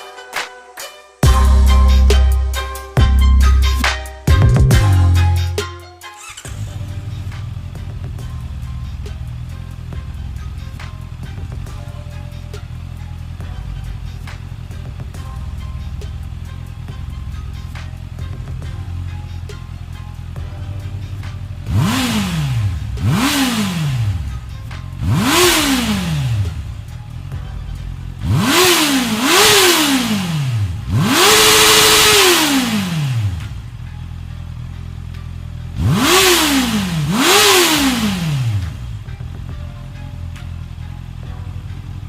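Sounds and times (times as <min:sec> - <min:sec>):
motorcycle engine idling and revving: 0:01.2 - 0:42.0.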